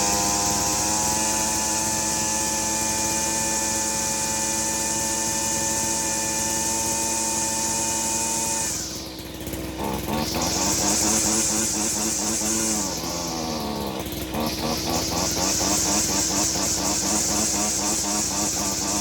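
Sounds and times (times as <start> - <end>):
engine running with choppy beat: 0.0 - 19.0
small gasoline engine running: 0.0 - 19.0.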